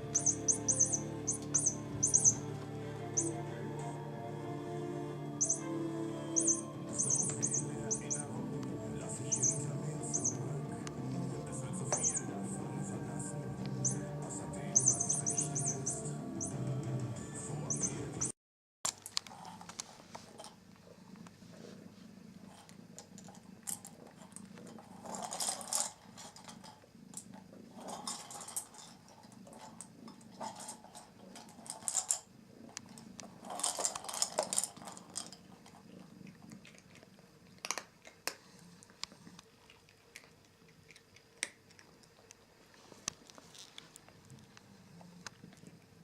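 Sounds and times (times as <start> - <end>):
cat purring: 0.0 - 18.3, 19.3 - 46.0.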